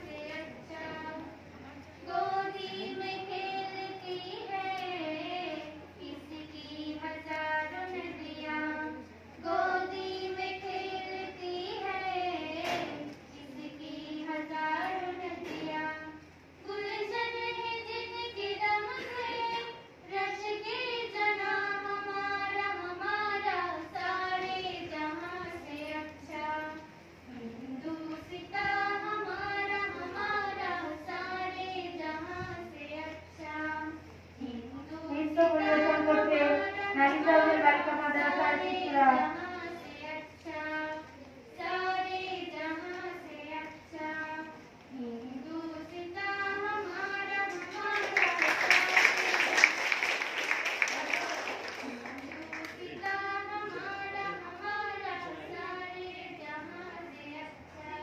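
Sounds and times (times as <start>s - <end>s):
girl singing: 0.0s - 49.4s, 50.9s - 58.0s.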